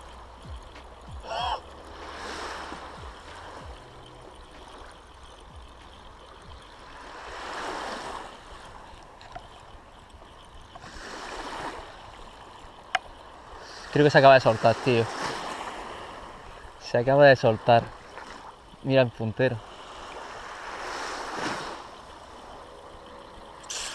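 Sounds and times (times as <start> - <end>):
waves washing over pebbles: 0.0 - 23.9.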